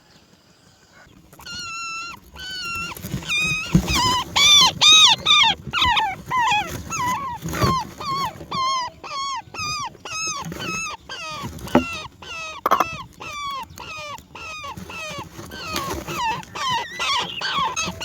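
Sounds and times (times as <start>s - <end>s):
nestling begging calls: 1.0s - 18.0s.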